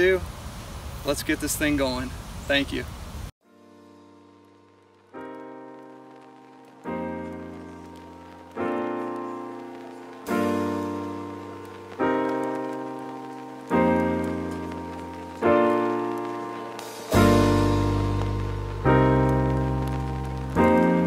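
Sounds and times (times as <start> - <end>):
piano chords: 3.4 - 21.0.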